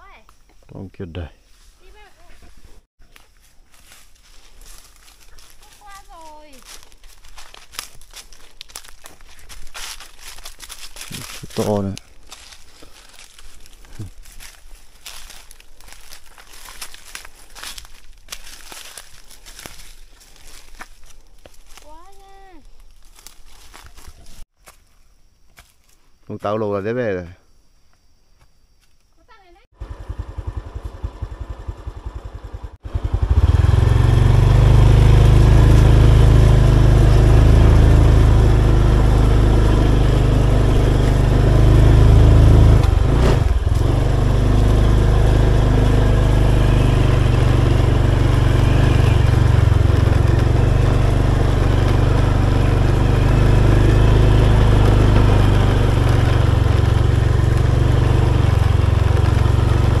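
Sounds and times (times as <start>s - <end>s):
motorbike engine running: 3.8s - 22.6s, 29.8s - 60.0s.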